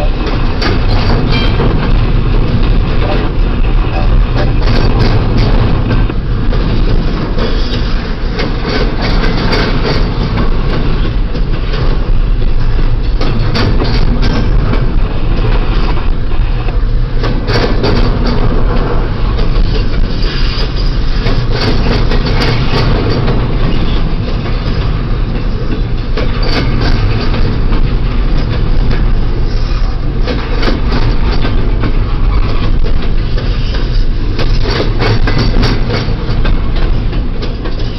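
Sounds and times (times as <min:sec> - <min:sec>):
freight train rolling past: 0:00.0 - 0:37.9
wheels clicking over rail joints: 0:00.0 - 0:37.9.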